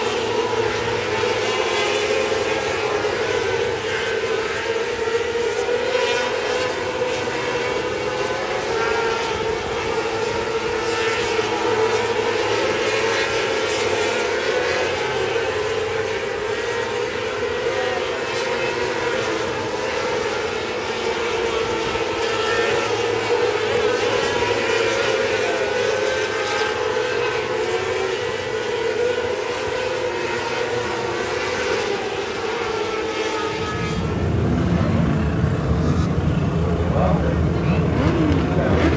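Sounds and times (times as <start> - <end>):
race car engines droning: 0.0 - 38.9.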